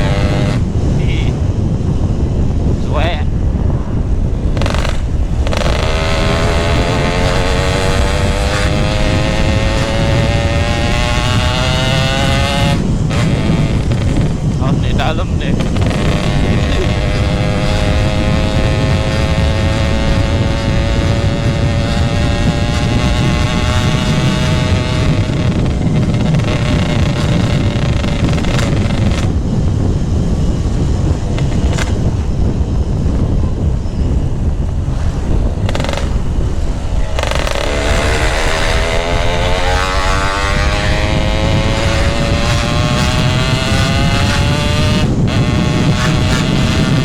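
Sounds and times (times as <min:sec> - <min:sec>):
motorcycle two-stroke engine: 0:00.0 - 0:01.2, 0:04.2 - 0:29.4, 0:34.6 - 0:47.0.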